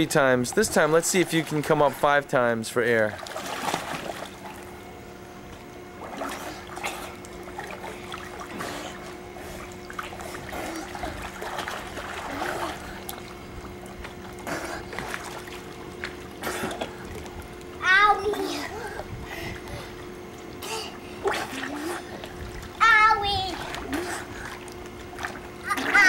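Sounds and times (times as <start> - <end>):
pool water splashing: 0.0 - 26.0
steady low hum: 0.0 - 26.0.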